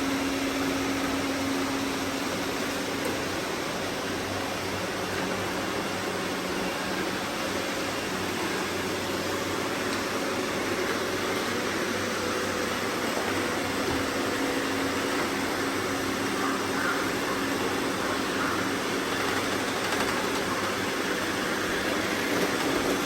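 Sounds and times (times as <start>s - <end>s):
robot vacuum cleaner whirring: 0.0s - 23.0s.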